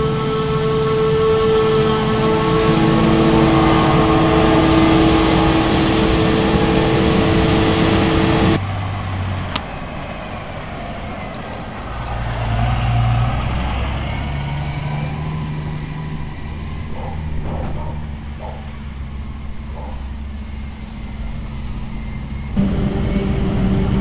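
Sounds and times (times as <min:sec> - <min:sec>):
diesel engine running: 0:00.0 - 0:24.0
machinery whine: 0:00.0 - 0:24.0.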